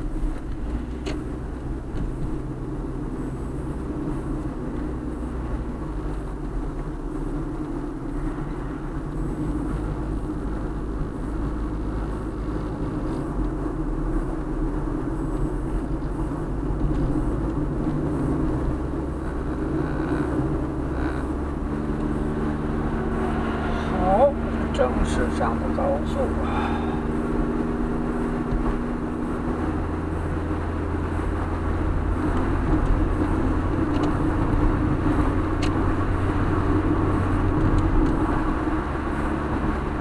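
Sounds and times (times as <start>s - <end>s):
car road noise drone: 0.0s - 40.0s.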